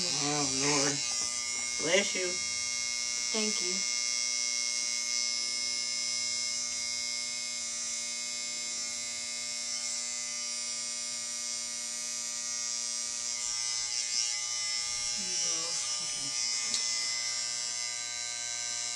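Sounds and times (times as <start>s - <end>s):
electric hair clippers buzzing: 0.0s - 18.9s.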